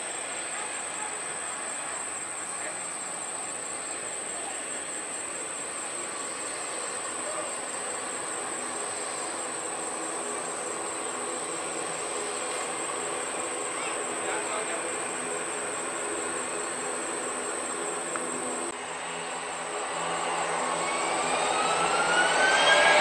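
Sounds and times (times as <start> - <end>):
distant jet airliner engine: 0.0 - 23.0
high-pitched insect drone: 0.0 - 23.0.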